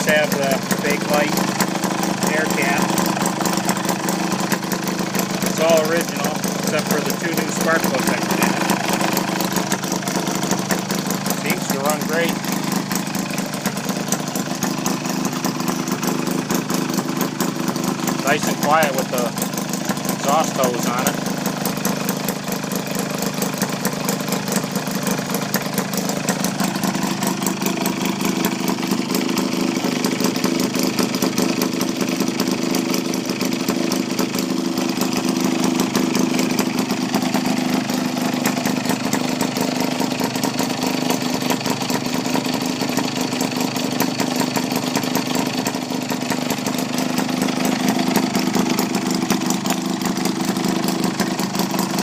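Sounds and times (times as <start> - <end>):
two-stroke engine running: 0.0 - 52.0.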